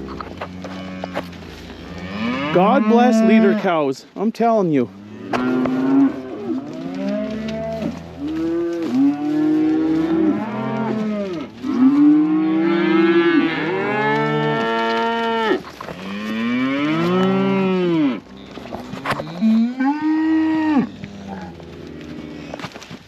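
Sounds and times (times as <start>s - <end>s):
cattle mooing: 0.0s - 3.7s, 5.0s - 22.6s.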